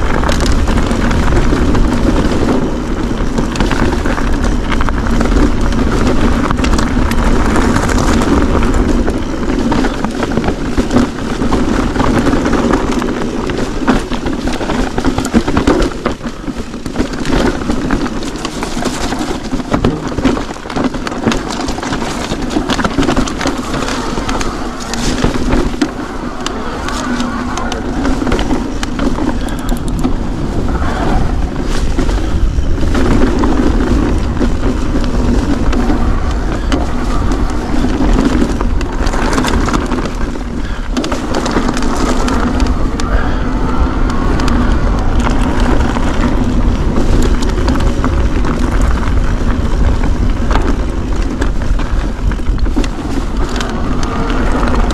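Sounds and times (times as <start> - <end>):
bike tyres on stony trail: 0.0 - 54.9
loose stones clicking: 0.0 - 54.9.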